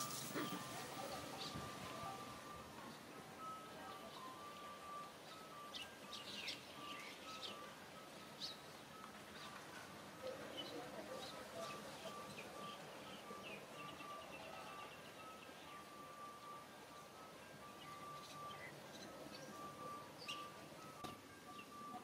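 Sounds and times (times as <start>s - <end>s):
birds chirping: 0.0s - 22.0s
faint repeating melody of tones: 0.0s - 22.0s.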